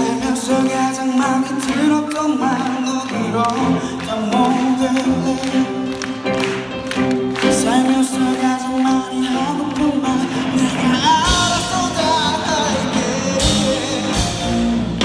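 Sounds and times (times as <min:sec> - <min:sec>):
instrumental accompaniment: 0:00.0 - 0:15.0
person singing: 0:00.0 - 0:15.0.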